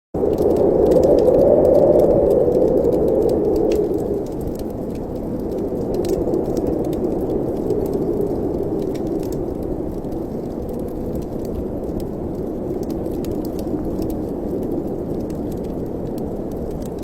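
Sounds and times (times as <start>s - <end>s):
fire crackling clicks: 0.2s - 17.0s
wind moaning through chimney: 0.2s - 17.0s.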